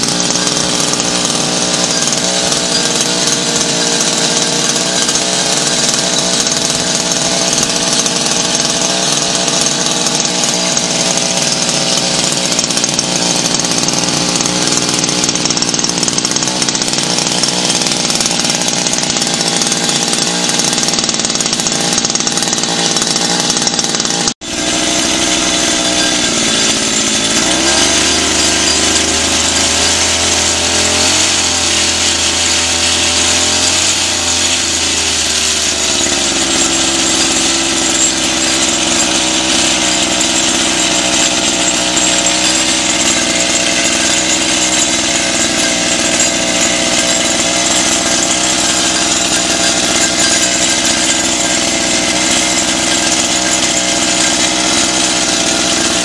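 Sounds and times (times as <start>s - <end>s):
two-stroke outboard engine running: 0.0s - 56.0s.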